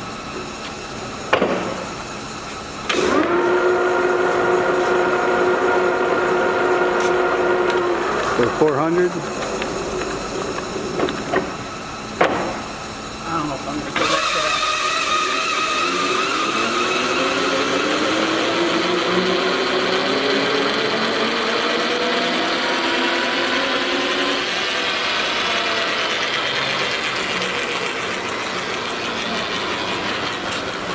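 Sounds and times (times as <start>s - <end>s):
lathe gear whine: 0.0s - 30.9s.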